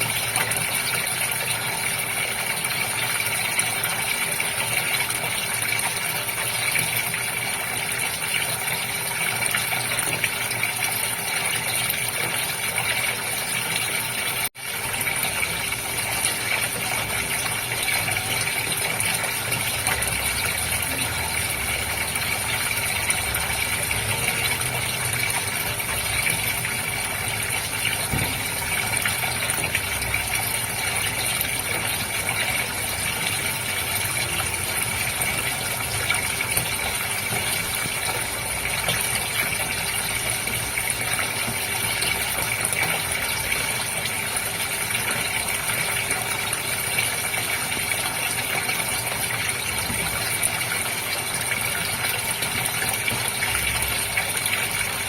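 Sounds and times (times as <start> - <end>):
water running and splashing: 0.0 - 55.0.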